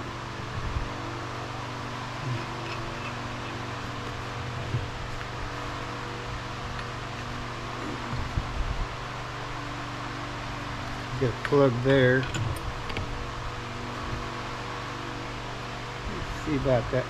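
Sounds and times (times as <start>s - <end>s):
mechanical hum with fan rush: 0.0s - 17.0s.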